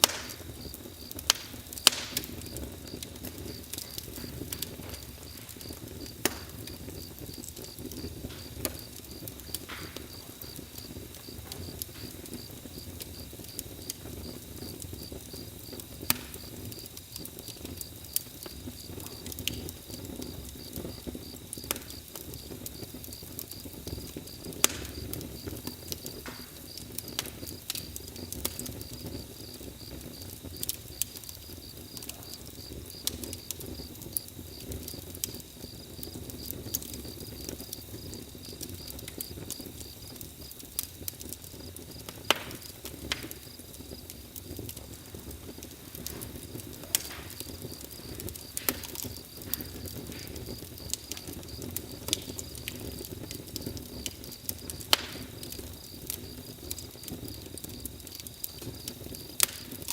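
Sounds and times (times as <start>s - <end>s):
campfire crackling and popping: 0.0s - 59.9s
crickets chirping: 0.0s - 59.9s.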